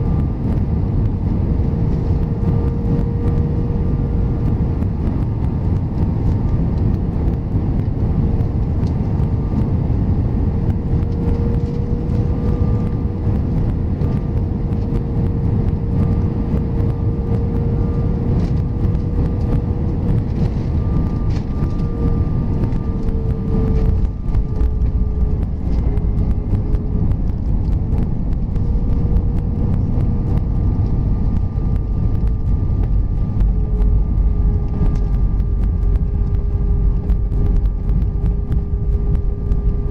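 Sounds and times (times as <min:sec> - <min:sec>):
deep runway rumble: 0:00.0 - 0:39.9
jet cabin engine and airflow noise: 0:00.0 - 0:39.9.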